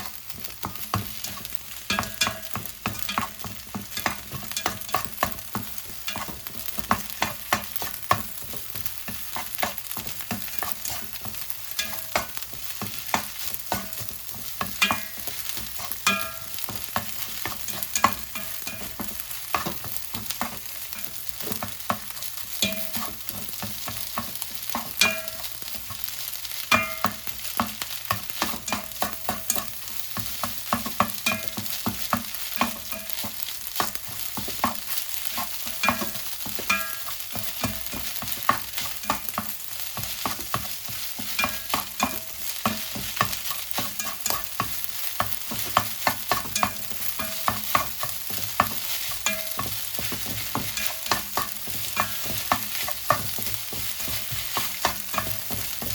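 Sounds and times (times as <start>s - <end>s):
rice sizzling in a pan: 0.0s - 55.9s
spatula striking a pan: 0.0s - 55.9s.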